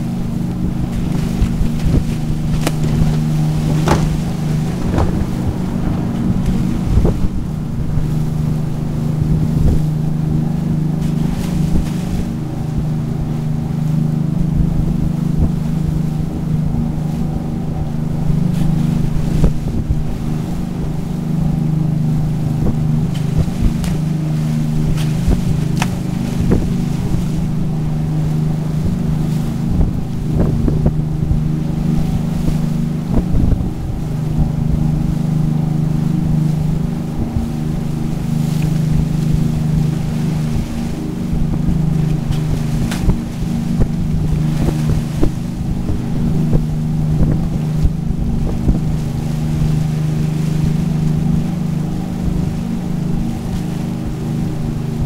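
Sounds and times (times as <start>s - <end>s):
boat engine droning: 0.0s - 55.0s
water rushing along hull: 0.0s - 55.0s
wind on microphone: 0.0s - 55.0s.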